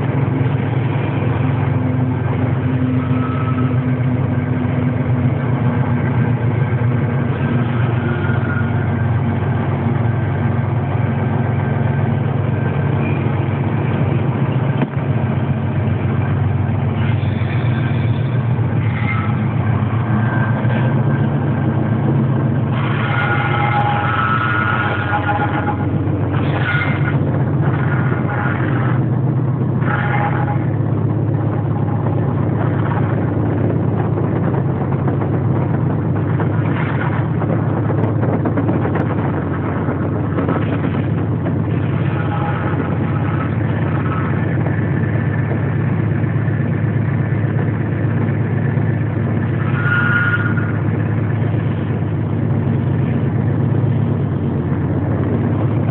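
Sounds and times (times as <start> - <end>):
diesel locomotive engine running: 0.0 - 55.9
high-pitched squealing: 0.1 - 29.2, 36.1 - 52.2.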